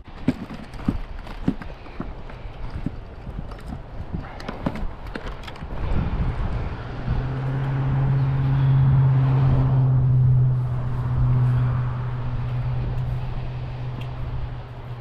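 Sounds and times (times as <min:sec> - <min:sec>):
low engine hum: 0:00.0 - 0:15.0
wind noise on microphone: 0:00.0 - 0:15.0.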